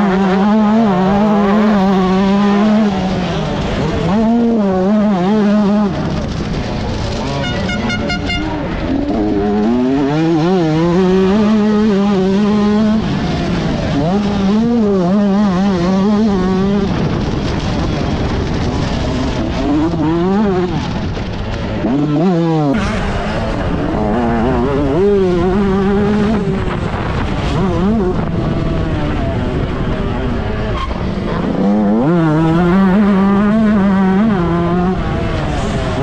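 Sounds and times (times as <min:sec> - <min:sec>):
two-stroke motorbike engine revving: 0:00.0 - 0:36.0.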